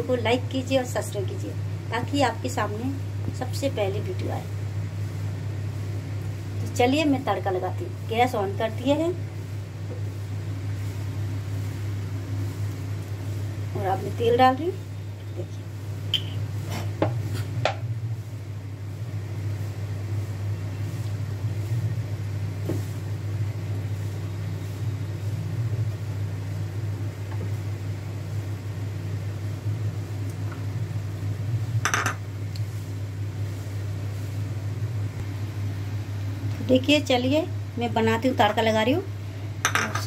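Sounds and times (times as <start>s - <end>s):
low kitchen hum: 0.0s - 40.0s.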